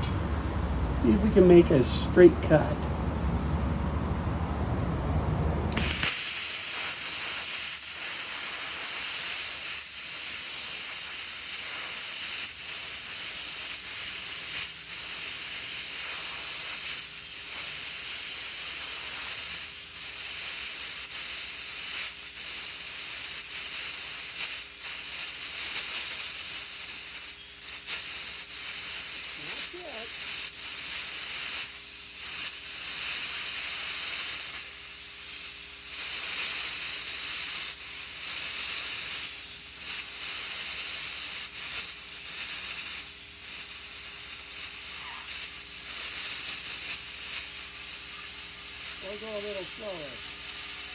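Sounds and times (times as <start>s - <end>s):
plasma cutter hissing: 5.7s - 50.9s.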